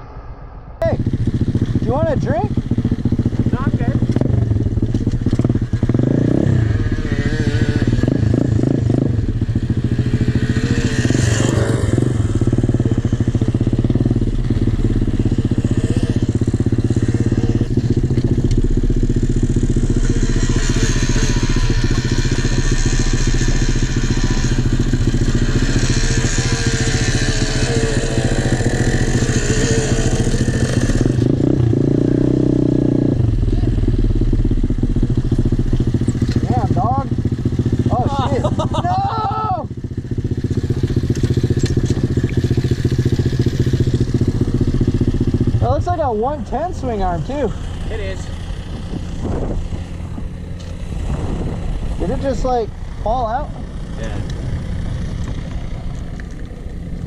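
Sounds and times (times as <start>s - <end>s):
pit bike engine revving: 0.8s - 57.0s.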